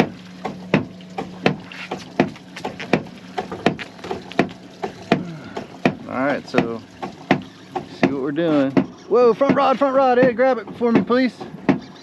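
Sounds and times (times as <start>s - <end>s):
boat hull knocking: 0.0s - 12.0s.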